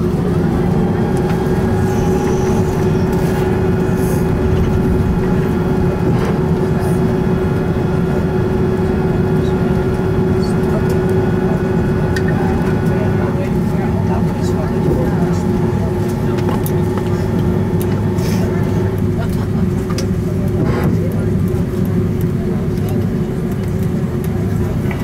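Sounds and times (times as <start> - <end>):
steady hum: 0.0 - 21.2
airplane cabin low rumble: 0.0 - 25.0.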